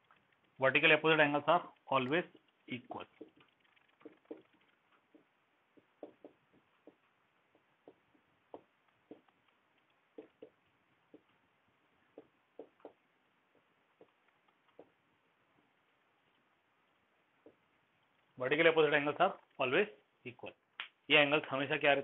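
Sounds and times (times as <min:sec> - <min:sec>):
marker writing on whiteboard: 0:00.0 - 0:19.6.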